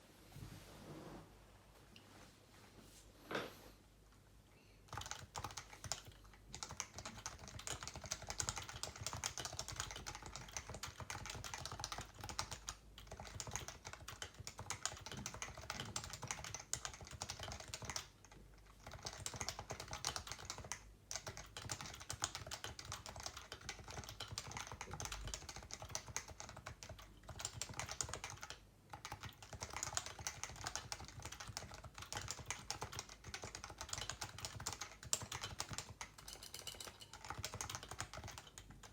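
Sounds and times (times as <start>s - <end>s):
keyboard typing: 4.9s - 38.9s.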